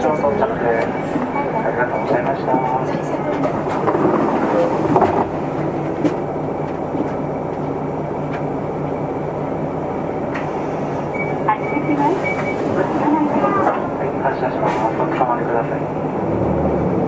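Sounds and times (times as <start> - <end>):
bus diesel engine: 0.0 - 17.0
road noise: 0.0 - 17.0.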